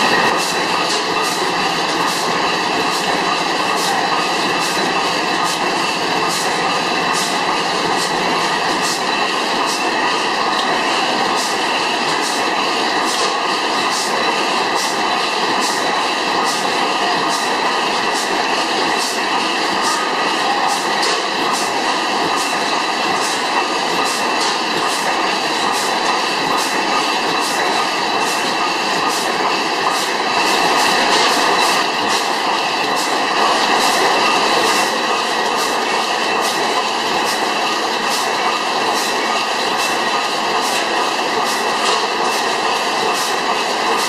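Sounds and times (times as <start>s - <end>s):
stationary gas engine running: 0.0s - 44.0s.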